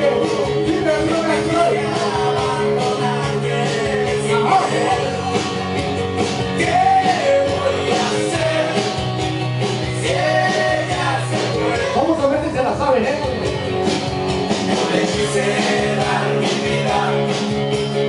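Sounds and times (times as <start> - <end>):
bass line: 0.0 - 18.0.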